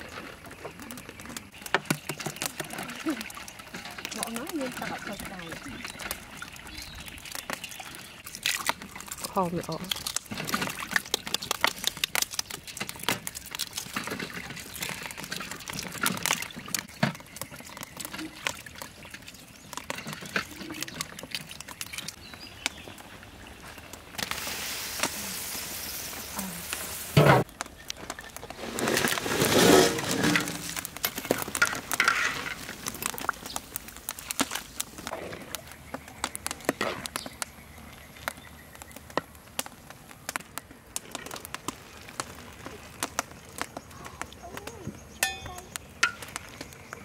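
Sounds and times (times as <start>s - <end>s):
eggshells cracking in water: 0.0s - 22.8s, 27.5s - 47.0s
bubbling: 0.0s - 47.0s
wok simmering hiss: 0.0s - 47.0s.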